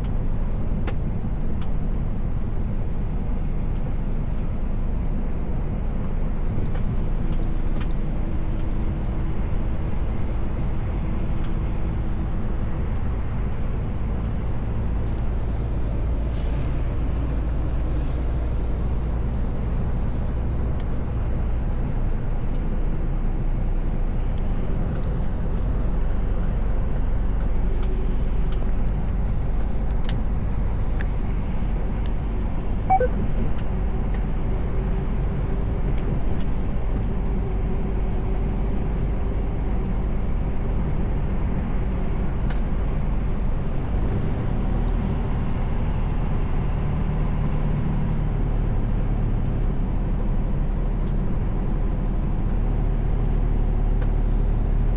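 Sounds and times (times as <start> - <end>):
road noise: 0.0 - 54.9
truck engine drone: 0.0 - 54.9.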